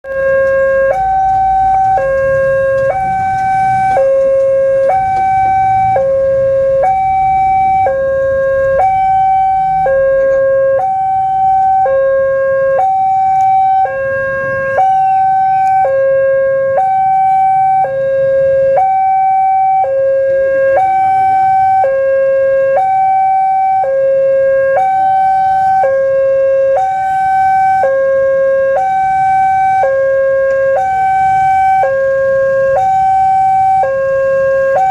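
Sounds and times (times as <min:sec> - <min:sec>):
two-tone crossing alarm: 0:00.0 - 0:34.9.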